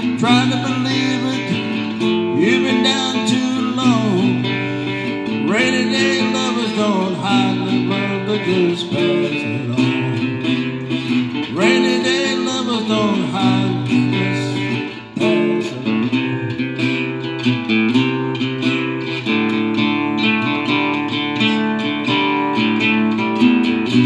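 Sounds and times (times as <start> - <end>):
acoustic guitar strummed and picked: 0.0 - 24.0.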